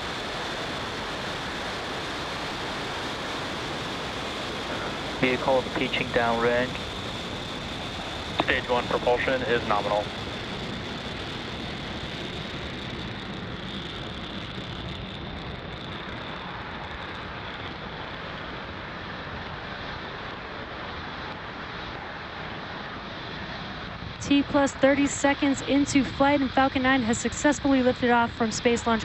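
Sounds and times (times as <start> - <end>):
rocket engines roaring: 0.0 - 29.0.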